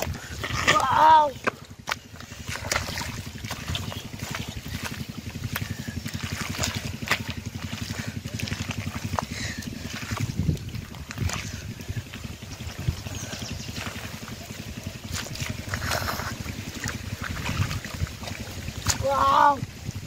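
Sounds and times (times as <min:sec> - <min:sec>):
low motor-like throbbing: 0:00.0 - 0:20.0
wet mud squelching: 0:00.0 - 0:20.0.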